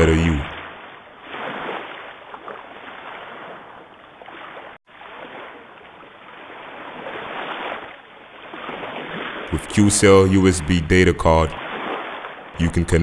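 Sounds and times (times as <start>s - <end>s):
ocean waves washing on beach: 0.0s - 13.0s.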